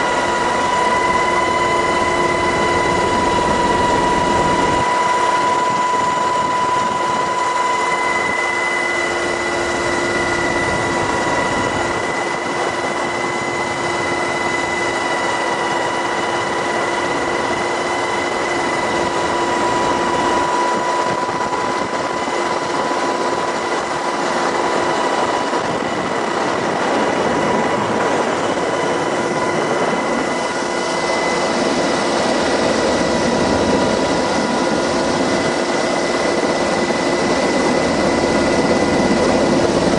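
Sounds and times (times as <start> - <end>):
helicopter running: 0.0 - 39.9
whining tones: 0.0 - 39.9.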